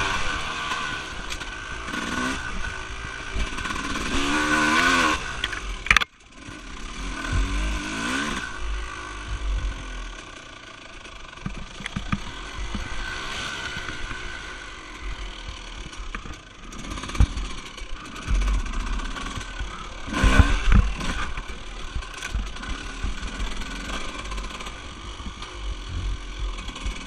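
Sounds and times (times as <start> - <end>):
off-road vehicle engine rumble: 0.0 - 27.0.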